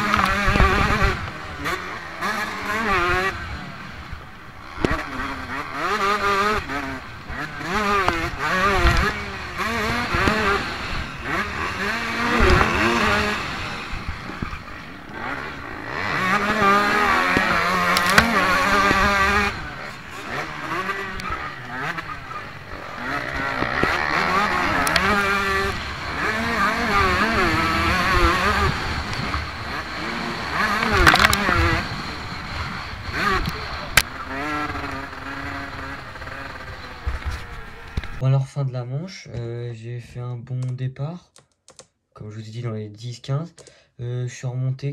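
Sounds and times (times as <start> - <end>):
motocross bike engine revving: 0.0 - 38.2.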